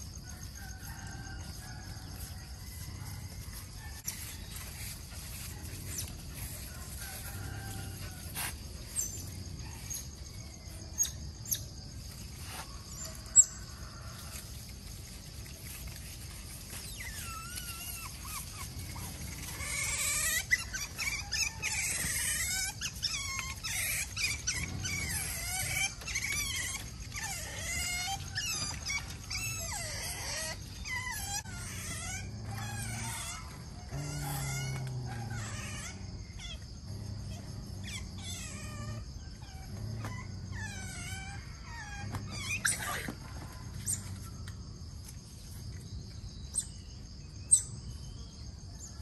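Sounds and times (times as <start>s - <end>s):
otters chirping and squealing: 2.1s - 13.6s, 14.9s - 44.4s.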